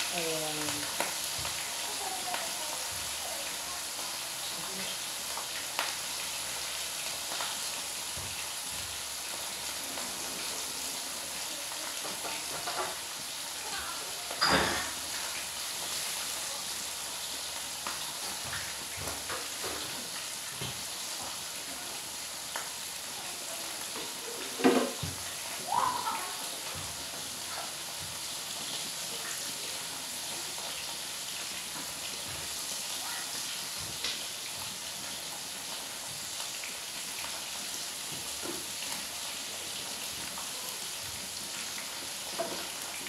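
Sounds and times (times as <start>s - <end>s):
food sizzling in oil: 0.0s - 43.0s.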